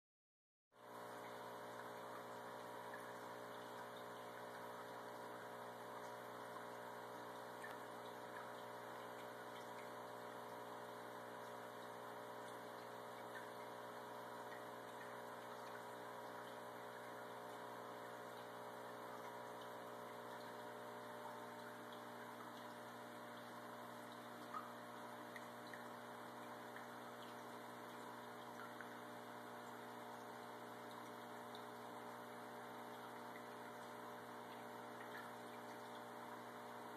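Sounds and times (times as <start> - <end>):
faint electrical hum with hiss: 0.8 - 36.9.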